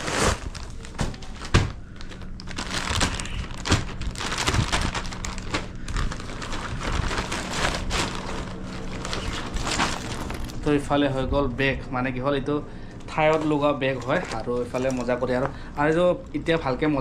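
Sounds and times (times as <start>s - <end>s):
plastic packaging crinkling: 0.0s - 10.9s, 13.0s - 17.0s.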